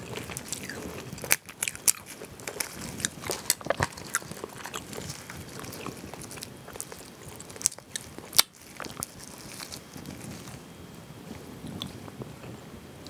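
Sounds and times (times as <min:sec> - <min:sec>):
crayfish shells cracking: 0:00.0 - 0:10.6.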